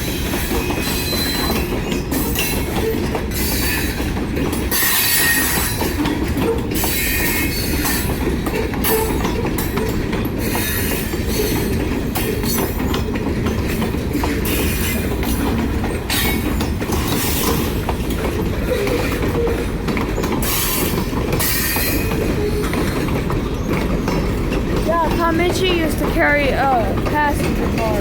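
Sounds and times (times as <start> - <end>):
freight cars rumbling on rails: 0.0 - 28.0
wheels clacking over rail joints: 0.0 - 28.0.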